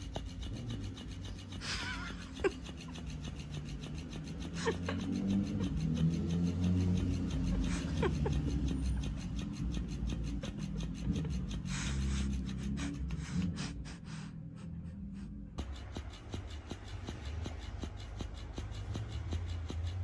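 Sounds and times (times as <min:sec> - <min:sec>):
toy fish tail flapping: 0:00.0 - 0:13.5, 0:15.6 - 0:20.0.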